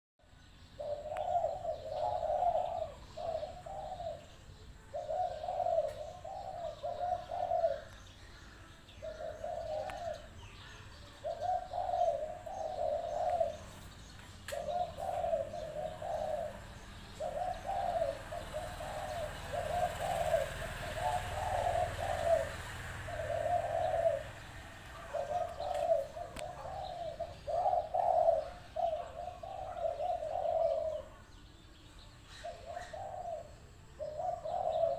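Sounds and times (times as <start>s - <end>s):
dove cooing: 0.7s - 34.9s.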